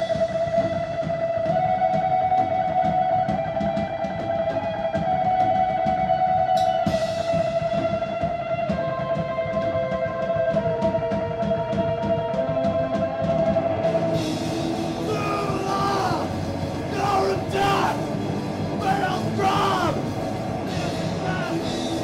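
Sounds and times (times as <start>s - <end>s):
drums pounding a beat: 0.0s - 22.0s.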